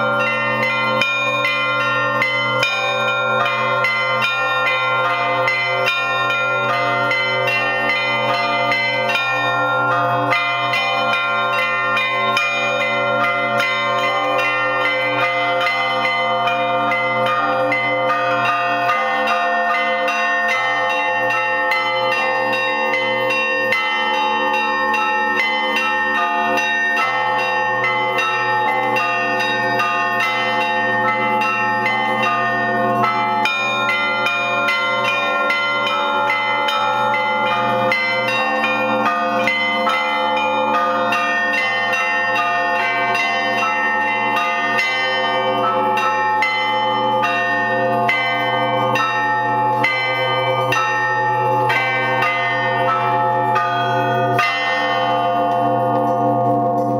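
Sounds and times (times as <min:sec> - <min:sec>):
hum of large bells: 0:00.0 - 0:56.9
small church bells ringing: 0:00.0 - 0:56.9.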